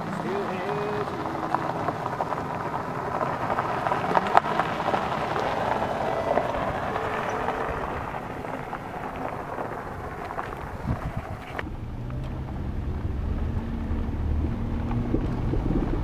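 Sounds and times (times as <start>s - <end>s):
car driving past on gravel: 0.0s - 16.0s.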